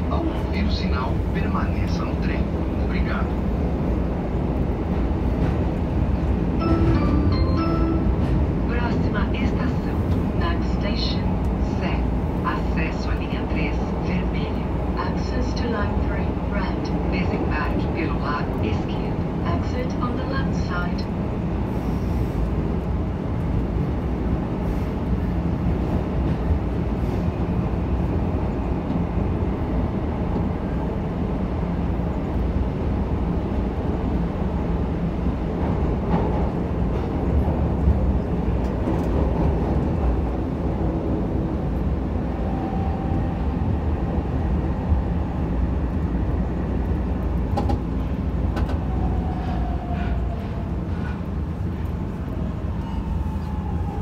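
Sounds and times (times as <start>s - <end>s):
train rumbling through tunnel: 0.0s - 54.0s.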